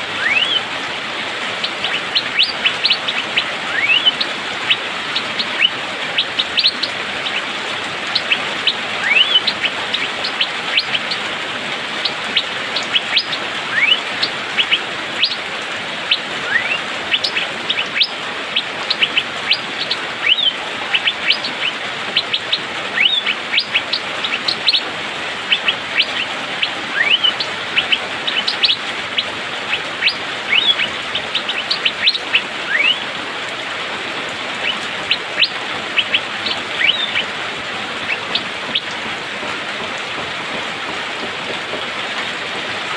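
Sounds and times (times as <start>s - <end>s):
bird calling with sharp notes: 0.0s - 33.2s, 34.5s - 42.5s.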